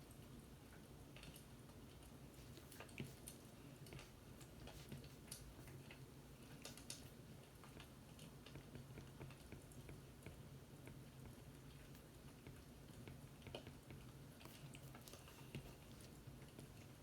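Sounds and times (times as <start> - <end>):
low steady hum: 0.0 - 17.0
small ticks and clicks: 0.0 - 17.0.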